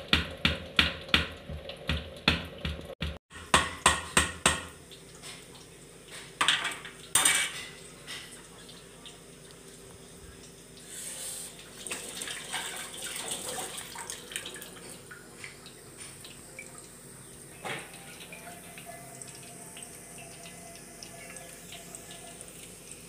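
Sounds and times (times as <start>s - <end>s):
batter frying in hot fat: 0.0s - 23.0s.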